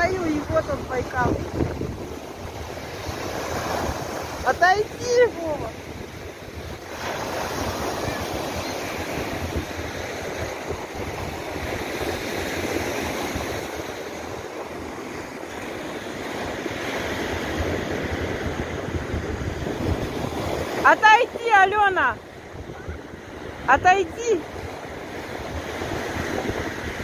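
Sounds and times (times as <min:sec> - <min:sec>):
waves breaking on shore: 0:00.0 - 0:27.0
wind buffeting microphone: 0:00.0 - 0:27.0.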